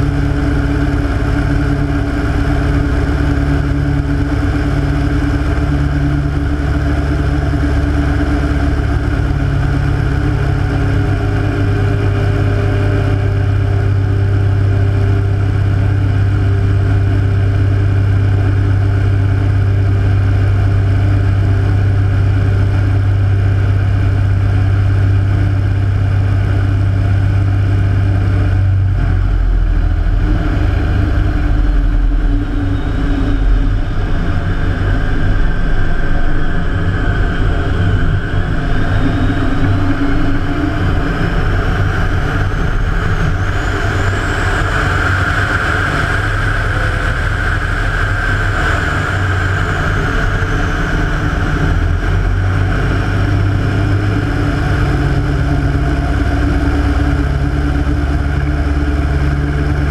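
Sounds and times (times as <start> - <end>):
radial aircraft engine running: 0.0 - 59.9.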